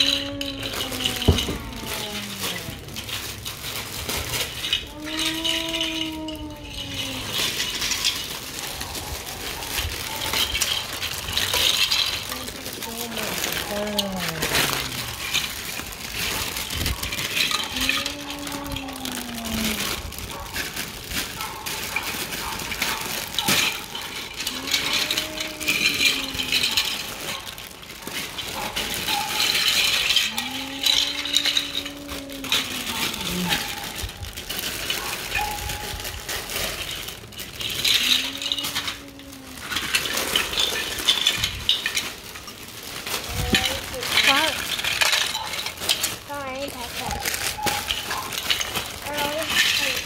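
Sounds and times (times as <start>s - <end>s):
plastic bricks rattling and clicking: 0.0s - 50.0s.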